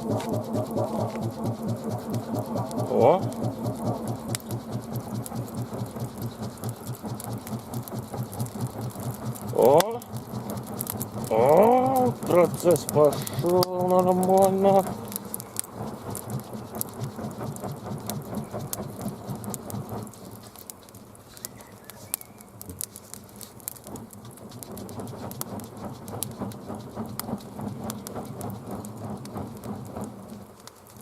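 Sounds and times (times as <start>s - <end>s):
campfire crackling and popping: 0.0s - 31.0s
rhythmic whoosh of fanned air: 0.0s - 31.0s.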